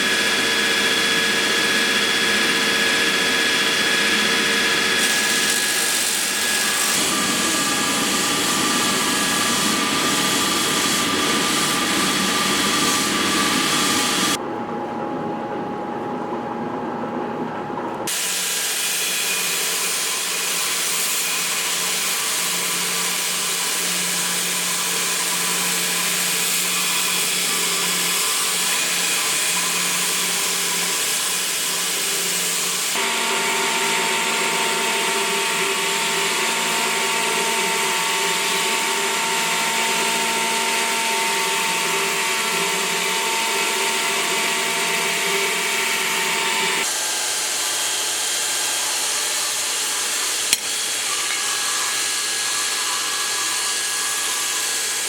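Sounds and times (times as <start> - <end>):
power tool running: 0.0 - 14.4, 18.0 - 55.0.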